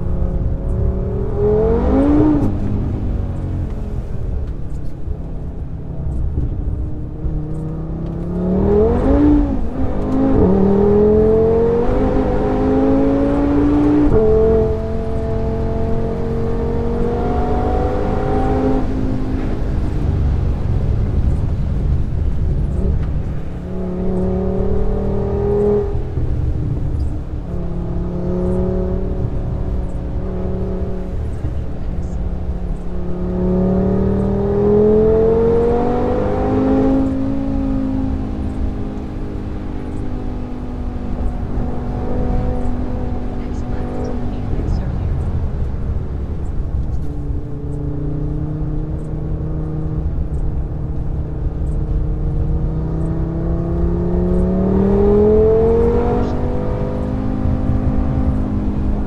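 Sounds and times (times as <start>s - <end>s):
car engine revving hard: 0.0s - 4.1s, 7.3s - 20.8s, 22.7s - 59.0s
tyre and road noise: 0.0s - 59.0s.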